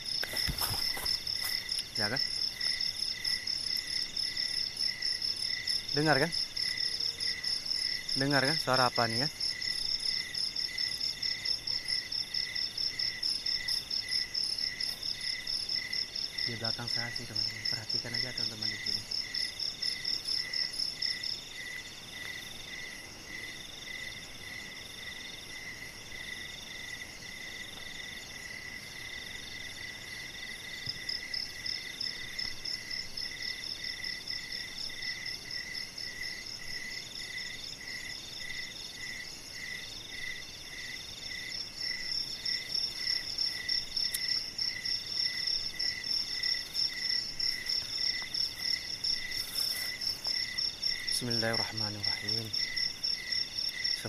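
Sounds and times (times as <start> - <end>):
cricket chirping steadily: 0.0 - 54.0
cricket slow long pulses: 0.0 - 54.0
high rapid insect trill: 0.0 - 54.0.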